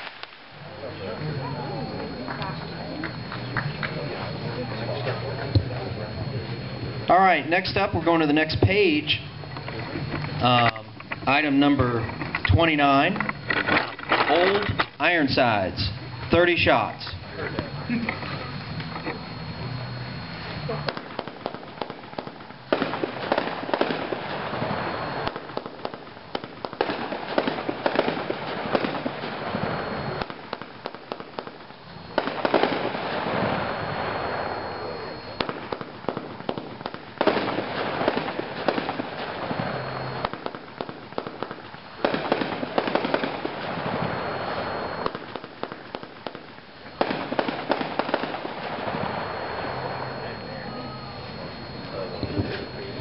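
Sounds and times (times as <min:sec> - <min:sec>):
fireworks crackling: 0:00.0 - 0:53.0.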